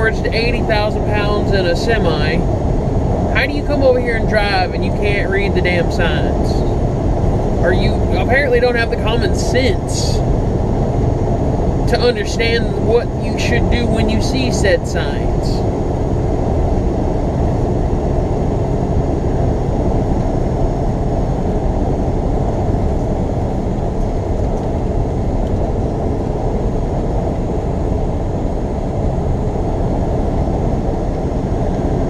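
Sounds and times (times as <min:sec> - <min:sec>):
truck cab engine and tyre drone: 0:00.0 - 0:32.0.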